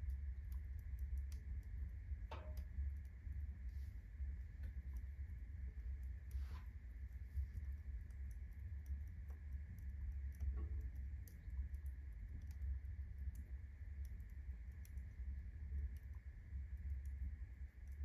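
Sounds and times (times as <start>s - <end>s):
fire low rumble: 0.0s - 18.0s
wood fire crackling: 0.0s - 18.0s.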